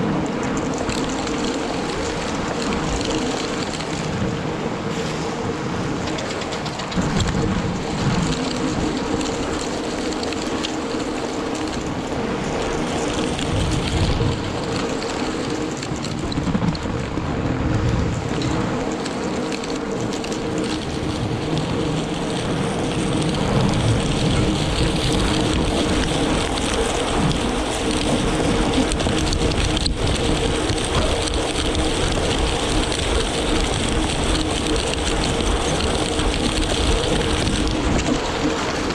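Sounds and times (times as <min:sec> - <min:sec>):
rollers scraping on snow: 0:00.0 - 0:38.9.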